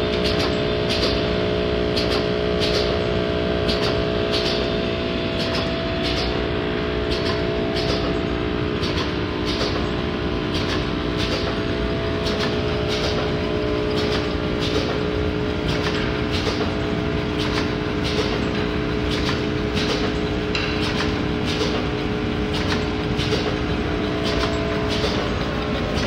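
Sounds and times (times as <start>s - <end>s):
machine motor hum: 0.0s - 26.0s.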